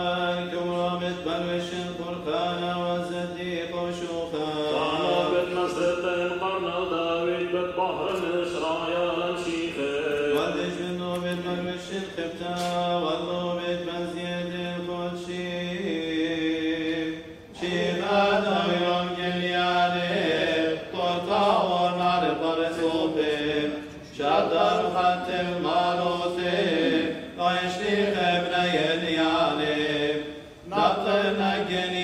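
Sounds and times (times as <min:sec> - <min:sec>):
men chanting over a drone: 0:00.0 - 0:32.0.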